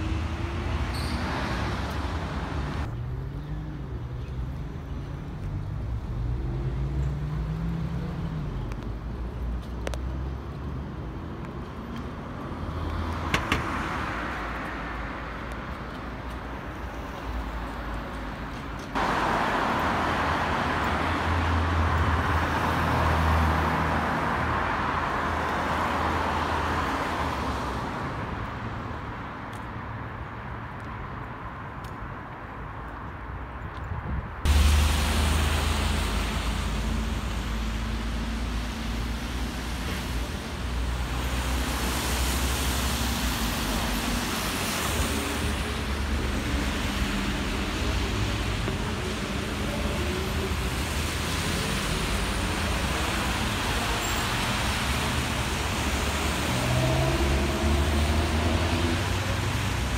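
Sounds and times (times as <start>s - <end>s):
cars passing at speed: 0.0s - 3.1s, 5.2s - 31.8s, 33.2s - 59.9s.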